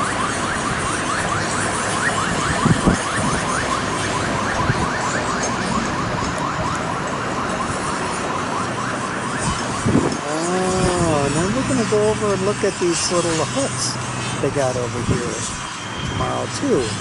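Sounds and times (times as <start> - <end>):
distant siren yelping: 0.0 - 17.0
wind noise on microphone: 0.0 - 17.0.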